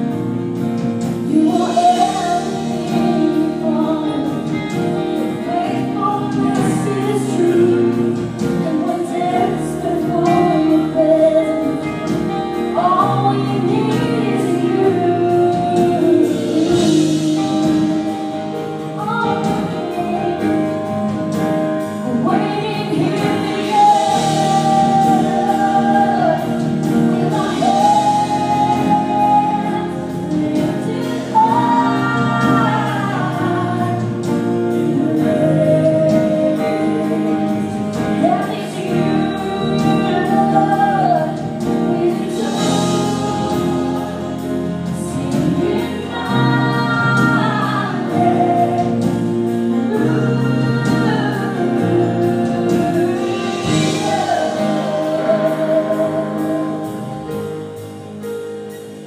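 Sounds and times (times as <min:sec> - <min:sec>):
electric and acoustic guitars: 0:00.0 - 0:59.0
keyboard: 0:00.0 - 0:59.0
sung vocals: 0:00.0 - 0:59.0.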